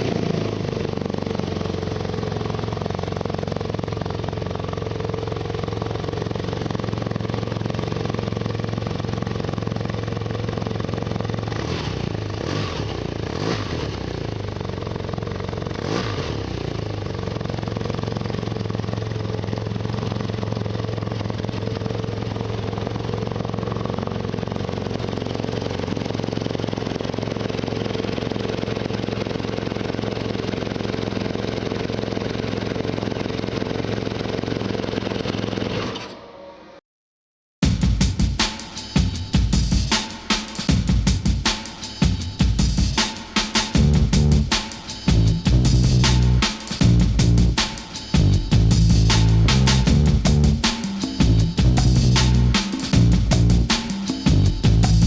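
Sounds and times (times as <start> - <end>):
motorcycle engine idling: 0.0 - 35.7, 43.8 - 55.0.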